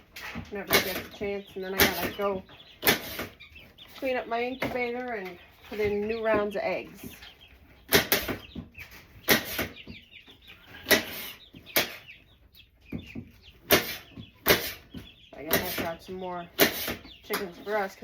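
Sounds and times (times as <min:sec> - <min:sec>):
baby chicks cheeping: 0:00.0 - 0:18.0.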